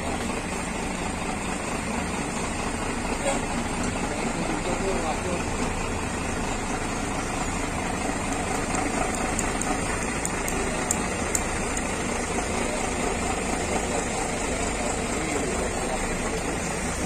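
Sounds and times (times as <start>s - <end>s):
bus diesel engine idling: 0.0s - 17.0s.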